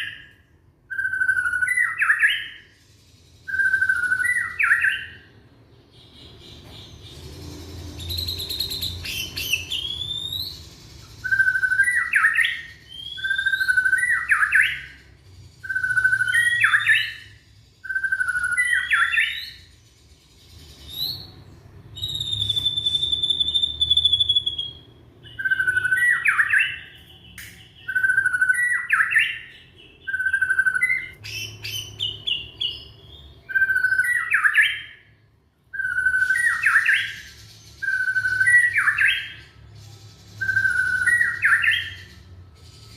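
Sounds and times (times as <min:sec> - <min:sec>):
bird singing whistled phrases: 0:00.0 - 0:05.4, 0:07.9 - 0:19.8, 0:20.6 - 0:42.9.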